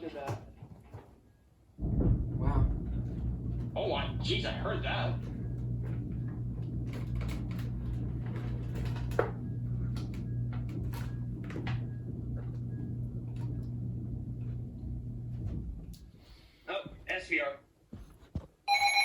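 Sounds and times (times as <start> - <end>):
steady low hum: 1.7 - 18.5.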